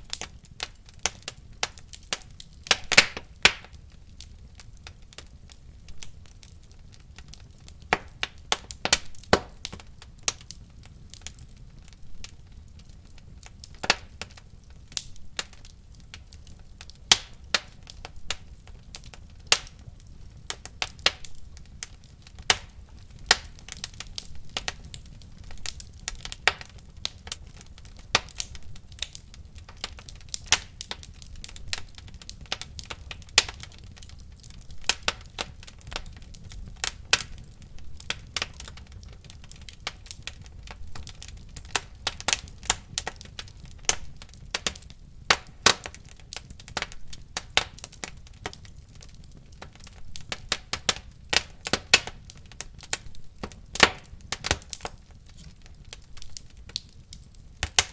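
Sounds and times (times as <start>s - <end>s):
low rumble of flame: 0.0s - 57.9s
wood fire crackling: 0.0s - 57.9s.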